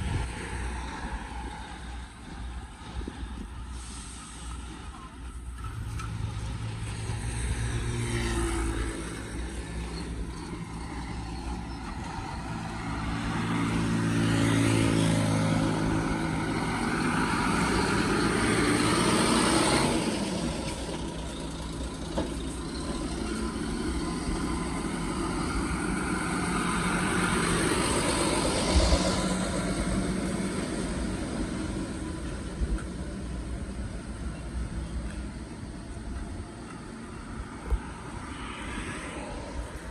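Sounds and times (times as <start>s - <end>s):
truck engine passing: 0.0s - 39.9s
vehicles passing: 0.0s - 39.9s.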